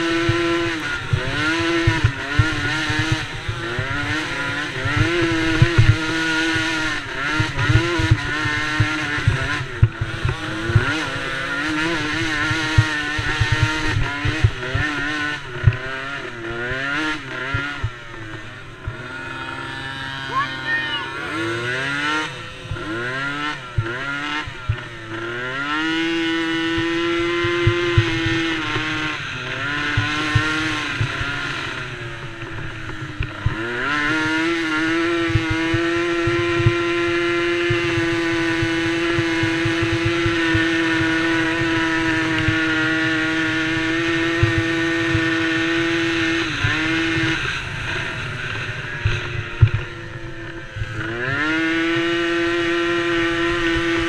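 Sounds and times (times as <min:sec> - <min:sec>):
small atv engine revving: 0:00.0 - 0:54.0.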